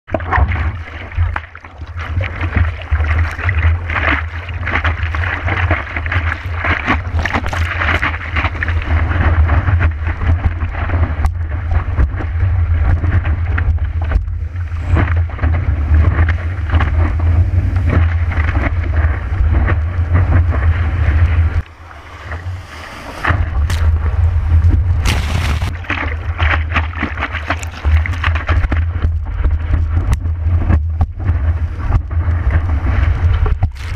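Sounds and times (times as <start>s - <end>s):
water rushing and splashing: 0.1s - 33.9s
wind buffeting on microphone: 0.1s - 33.9s.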